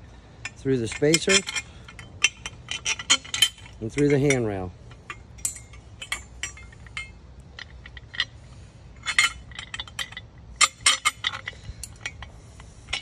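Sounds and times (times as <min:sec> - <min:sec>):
metal screw clinking on metal: 0:00.4 - 0:08.4, 0:09.0 - 0:12.3.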